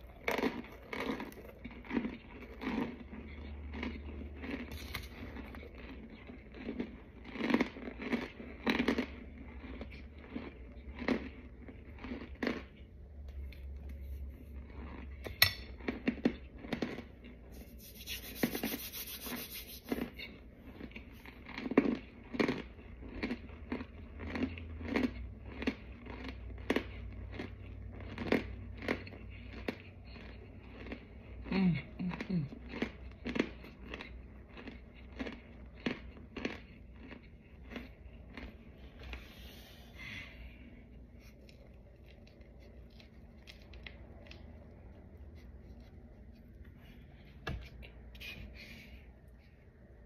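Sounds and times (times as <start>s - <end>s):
crunching and chewing: 0.0s - 18.7s, 19.9s - 48.6s.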